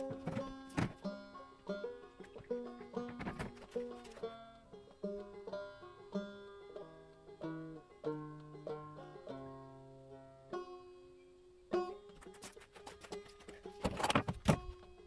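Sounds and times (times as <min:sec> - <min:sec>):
banjo melody: 0:00.0 - 0:15.0.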